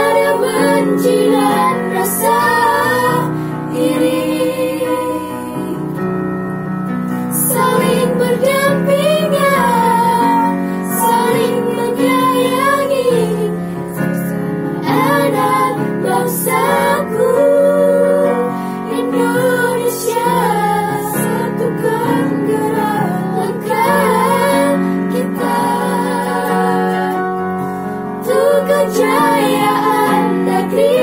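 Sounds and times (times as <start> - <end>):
girls choir singing: 0.0 - 6.1, 7.2 - 31.0.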